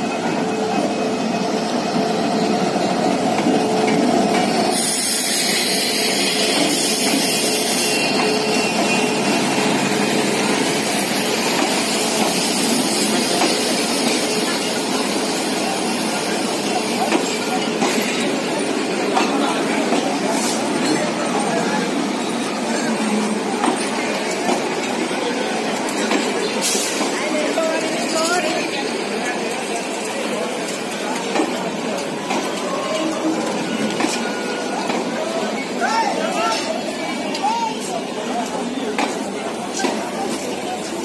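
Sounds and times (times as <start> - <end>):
diesel locomotive passing: 0.0 - 41.0.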